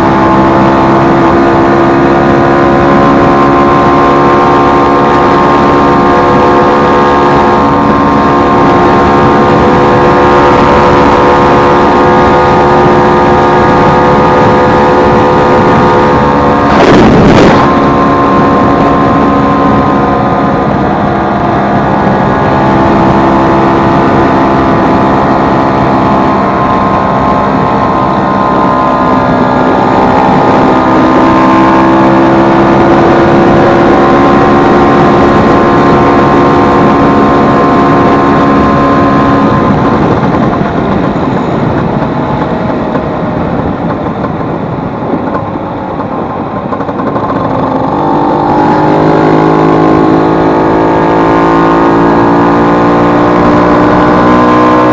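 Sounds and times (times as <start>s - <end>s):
scooter engine revving: 0.0s - 42.5s, 43.3s - 54.9s.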